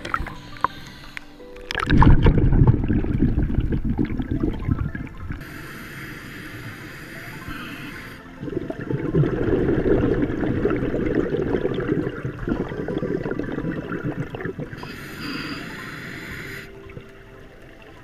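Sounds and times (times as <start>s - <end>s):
underwater breath bubbling: 0.0s - 17.1s.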